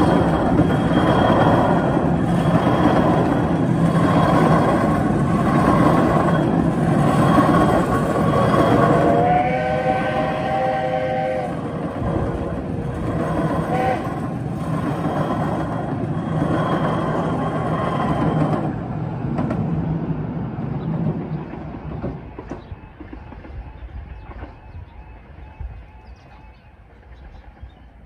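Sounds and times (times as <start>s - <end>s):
train coaches rumbling and clattering: 0.0s - 28.0s.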